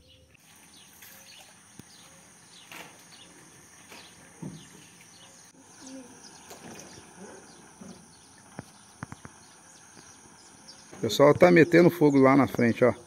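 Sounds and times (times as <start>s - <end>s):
high-pitched insect drone: 1.7s - 13.0s.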